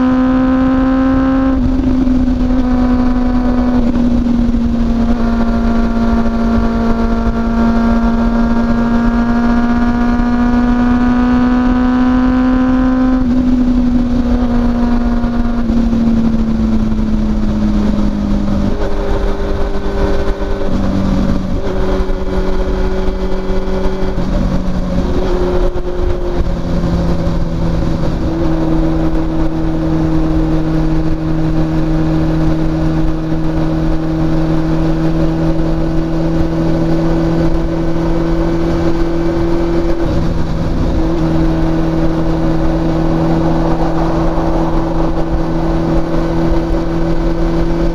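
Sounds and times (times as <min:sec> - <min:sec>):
motorcycle engine at speed: 0:00.0 - 0:47.9.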